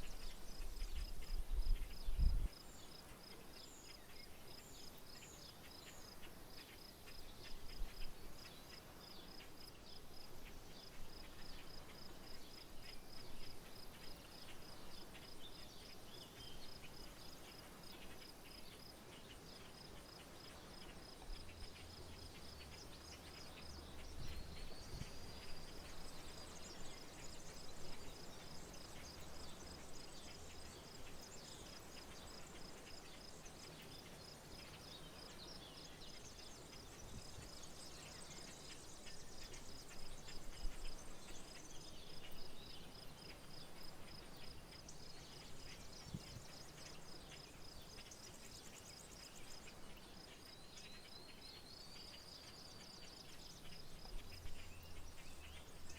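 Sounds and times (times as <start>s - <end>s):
insect chirping: 0.0s - 55.9s.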